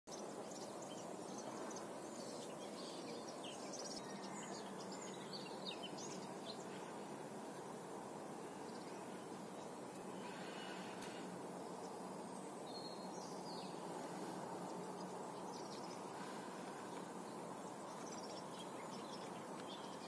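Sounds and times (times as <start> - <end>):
small birds chirping: 0.1 - 20.0
steady background hiss: 0.1 - 20.0.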